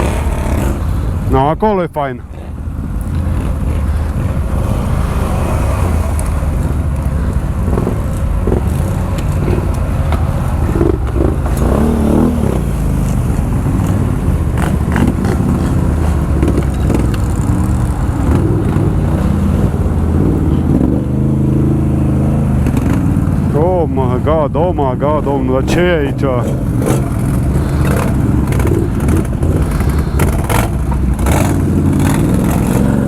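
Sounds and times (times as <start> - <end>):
quad bike engine running: 0.0 - 1.6, 2.3 - 33.0.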